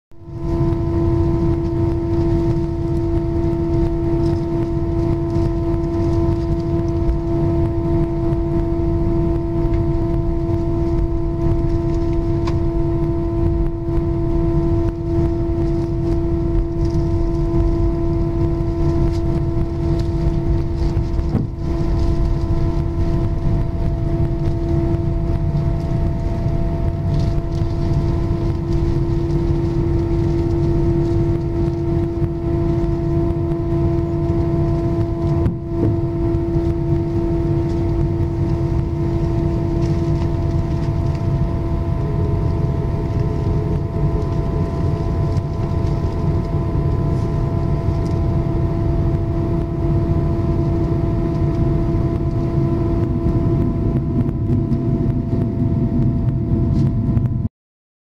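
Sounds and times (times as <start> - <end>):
jet engines humming: 0.3 - 57.5.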